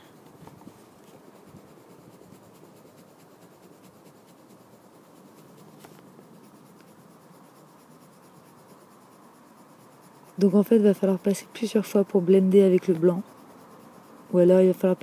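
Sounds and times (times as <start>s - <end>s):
pencil scratching on paper: 0.1s - 15.0s.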